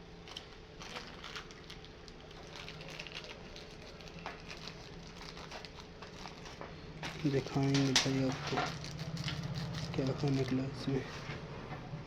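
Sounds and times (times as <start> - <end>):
steady low hum: 0.0 - 12.0
packaging rustling and crinkling: 0.2 - 11.4.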